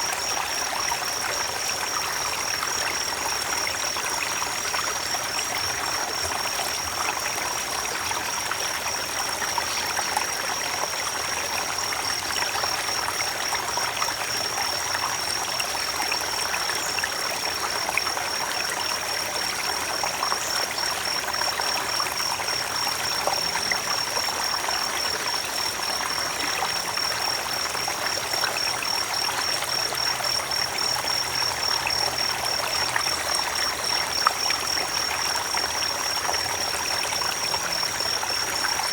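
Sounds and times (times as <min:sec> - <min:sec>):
creek water running over stones: 0:00.0 - 0:38.9.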